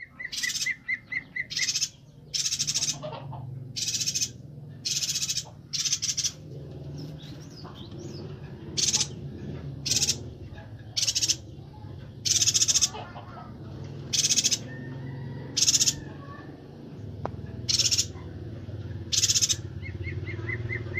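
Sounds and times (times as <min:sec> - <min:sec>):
bird chattering calls: 0:00.0 - 0:16.6, 0:17.4 - 0:20.9.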